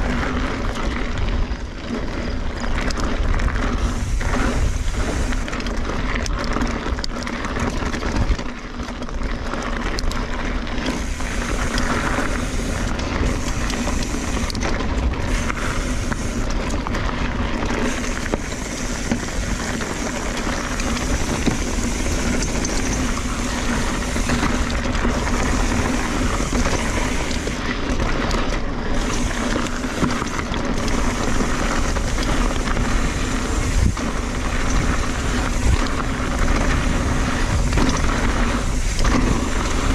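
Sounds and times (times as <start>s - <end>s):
bike rattling: 0.0s - 39.9s
tyres crunching on gravel: 0.0s - 39.9s
wind buffeting microphone: 2.4s - 6.8s, 10.6s - 39.9s.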